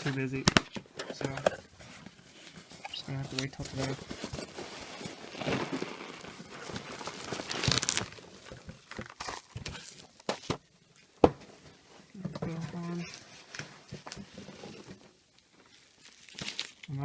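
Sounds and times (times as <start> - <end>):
packaging rustling and tearing: 0.0 - 10.7, 12.8 - 17.0.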